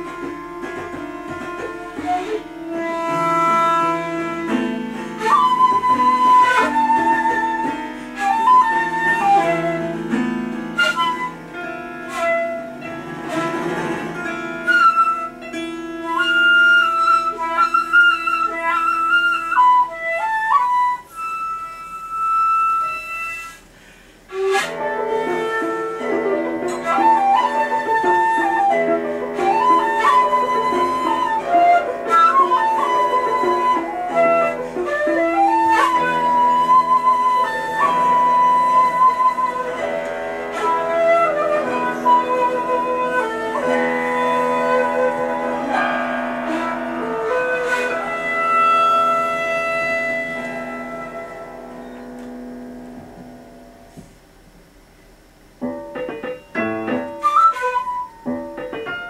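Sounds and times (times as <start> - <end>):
piano strings plucked and struck: 0.0 - 19.2, 24.6 - 54.8, 55.6 - 59.0
bamboo flute slow melody: 0.0 - 53.8, 56.9 - 59.0.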